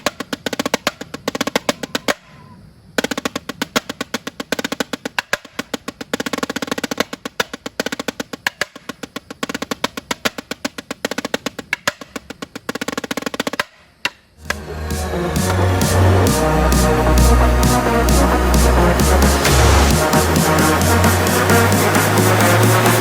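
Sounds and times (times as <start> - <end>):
snare drum rolls: 3.0 - 23.0.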